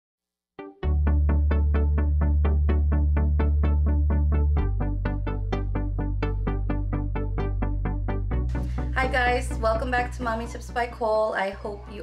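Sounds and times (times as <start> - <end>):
piano chords: 0.6 - 11.1
steady low bass: 0.8 - 11.0.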